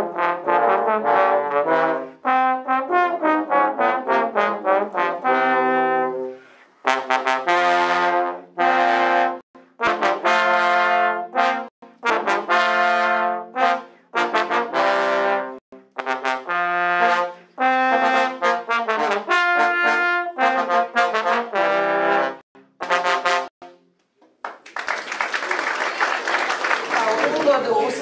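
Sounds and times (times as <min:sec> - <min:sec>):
trombones playing in harmony: 0:00.0 - 0:23.8.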